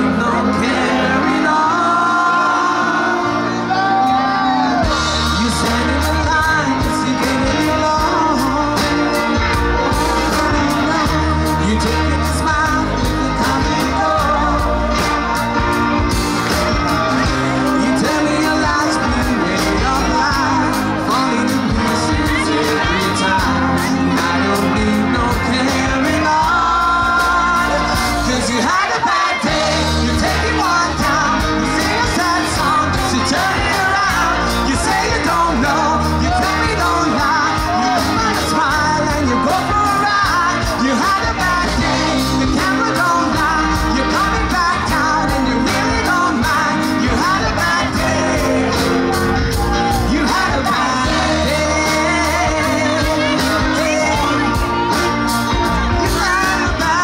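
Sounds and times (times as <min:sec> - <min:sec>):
guitar: 0:00.0 - 0:57.0
person singing into microphone: 0:00.0 - 0:57.0
steady drum beat: 0:04.8 - 0:57.0.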